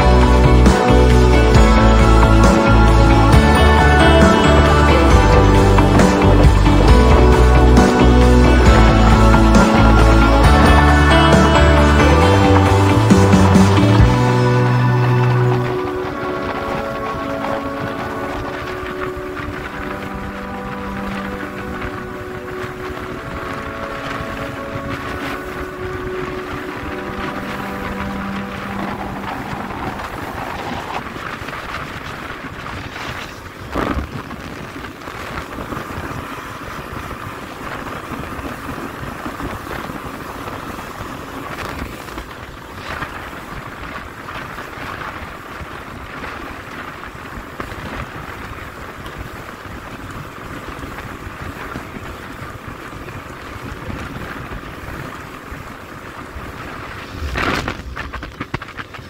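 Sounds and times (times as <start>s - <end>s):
outboard motor hum: 0.0s - 59.0s
wind rushing over microphone: 0.0s - 59.0s.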